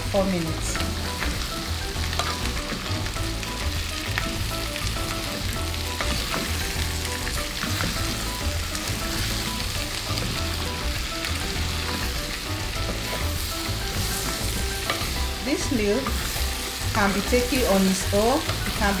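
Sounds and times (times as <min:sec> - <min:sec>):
food sizzling in a pan: 0:00.0 - 0:19.0
spatula scraping and tapping pan: 0:00.8 - 0:19.0.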